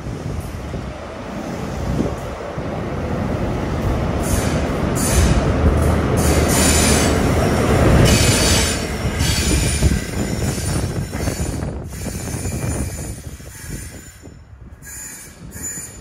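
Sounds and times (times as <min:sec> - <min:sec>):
diesel locomotive hum: 0:00.0 - 0:16.0
train wheels rumbling and squealing: 0:00.0 - 0:16.0.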